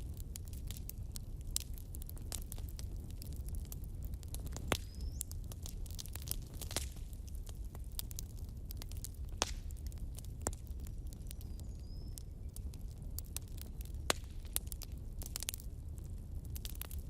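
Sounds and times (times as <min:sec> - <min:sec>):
burning logs popping and snapping: 0:00.0 - 0:17.0
low rumble of flames: 0:00.0 - 0:17.0.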